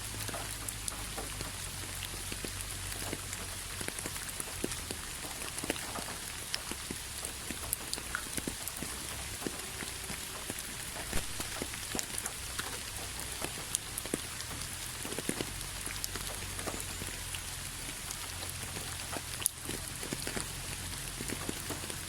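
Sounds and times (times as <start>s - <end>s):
raindrop hits close by: 0.0s - 22.0s
steady rain hiss: 0.0s - 22.0s.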